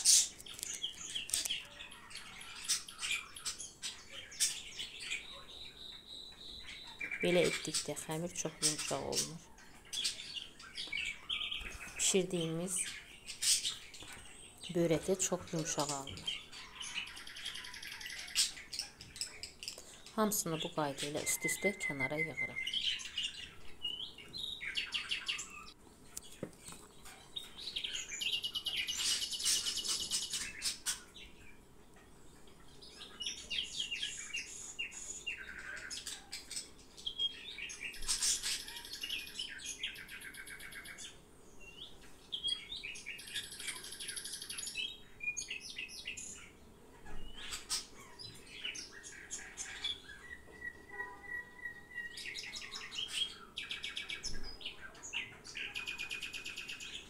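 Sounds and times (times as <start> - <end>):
songbird chirping and trilling: 0.0 - 57.0.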